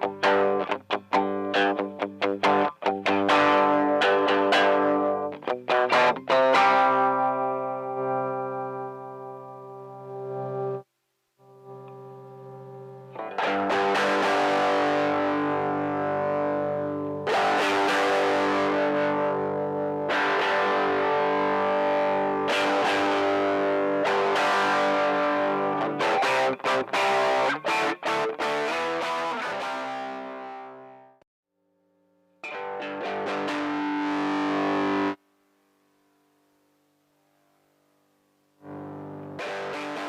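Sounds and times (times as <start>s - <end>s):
distorted electric guitar chords: 0.0s - 10.8s, 11.4s - 31.2s, 32.4s - 35.2s, 38.6s - 40.0s.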